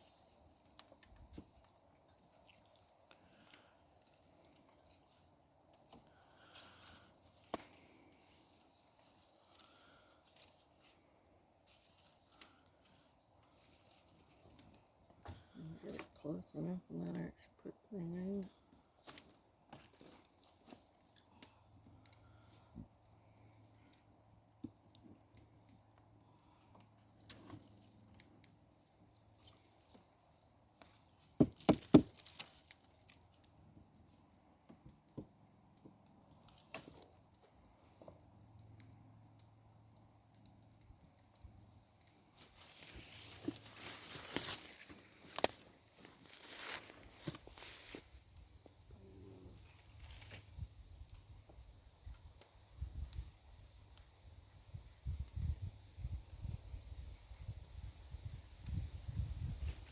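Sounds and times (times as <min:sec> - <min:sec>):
brush fire crackling and popping: 0:00.0 - 0:59.9.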